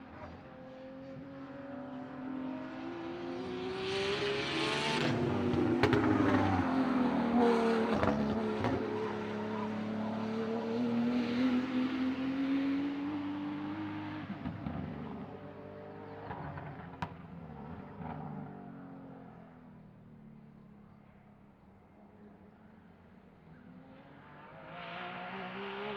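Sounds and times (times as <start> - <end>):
race car engine at speed: 0.0 - 25.9.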